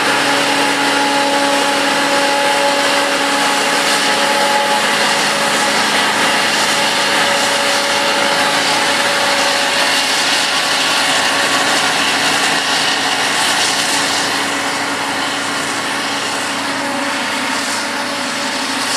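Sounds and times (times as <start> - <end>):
forage harvester running: 0.0 - 18.9.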